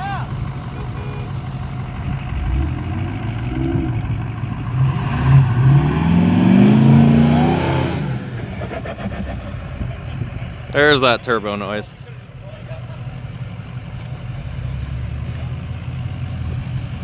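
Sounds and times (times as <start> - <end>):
pickup engine revving: 0.3 - 17.0.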